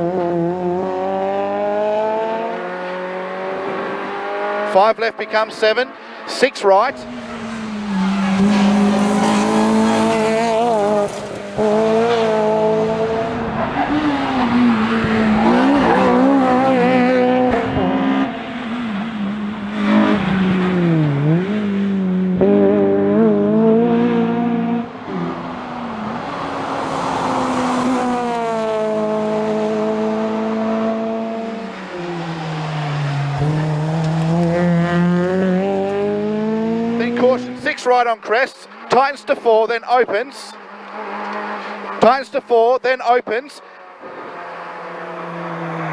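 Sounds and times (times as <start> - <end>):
car engine revving at speed: 0.0 - 45.9.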